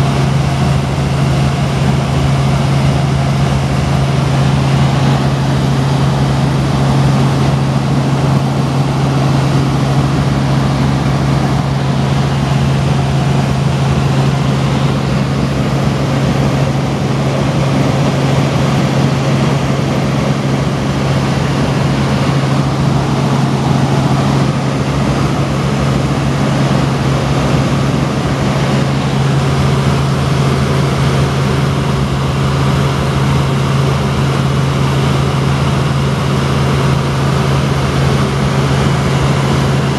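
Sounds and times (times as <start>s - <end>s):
helicopter drone from inside cabin: 0.0s - 39.9s.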